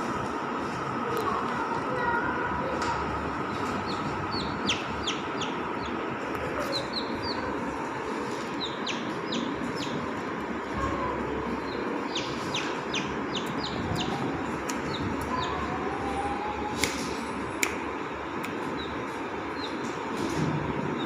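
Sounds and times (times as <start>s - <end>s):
chick peeping: 2.7s - 17.7s, 18.5s - 21.0s.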